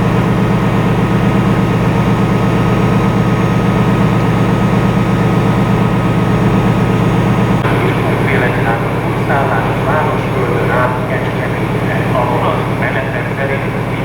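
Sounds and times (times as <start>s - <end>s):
faint steady whine: 0.0s - 14.0s
locomotive engine drone: 0.0s - 14.0s.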